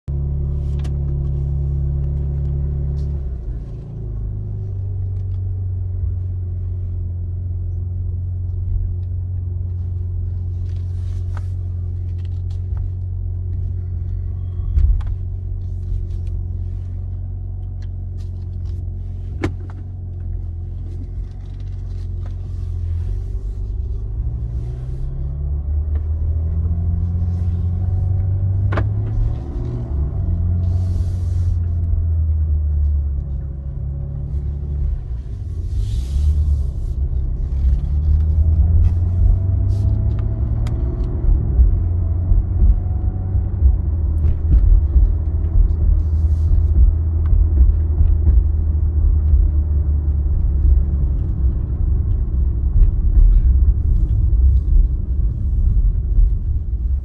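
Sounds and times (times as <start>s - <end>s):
car engine running while reversing: 0.1s - 57.0s.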